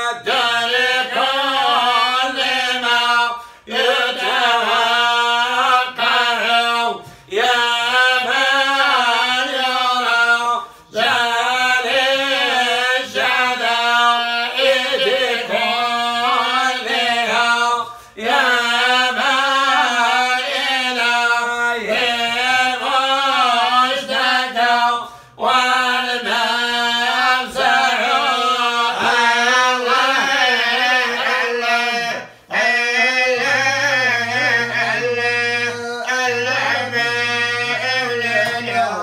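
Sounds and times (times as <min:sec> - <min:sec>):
man chanting melodically: 0:00.0 - 0:39.0.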